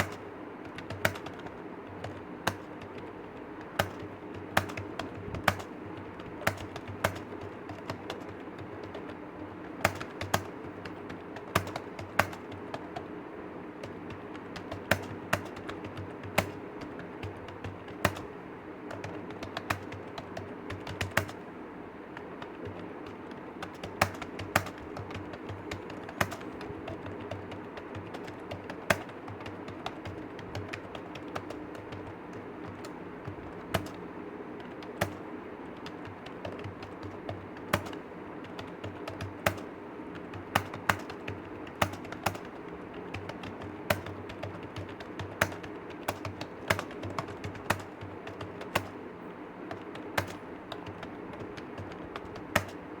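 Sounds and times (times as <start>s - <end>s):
keyboard typing: 0.0s - 53.0s
steady low hum: 0.0s - 53.0s.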